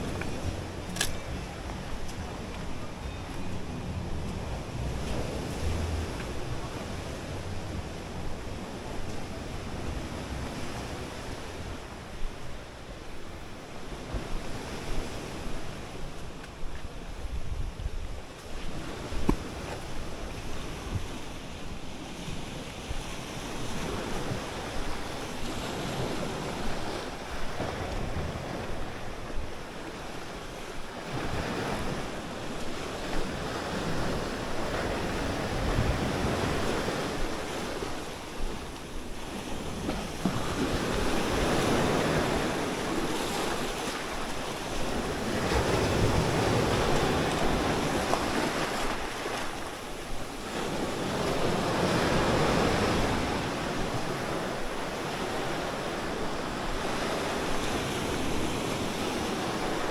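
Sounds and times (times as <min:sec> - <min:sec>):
small waves breaking on shore: 0:00.0 - 0:59.9
wind buffeting microphone: 0:00.0 - 0:59.9.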